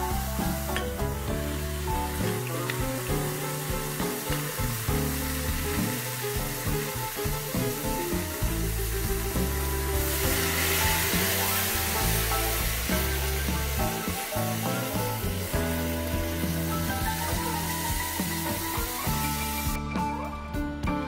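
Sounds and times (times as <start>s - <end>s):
food sizzling in a pot: 0.0s - 19.8s
liquid poured into hot pot hissing: 0.0s - 19.8s
background music: 0.0s - 21.0s.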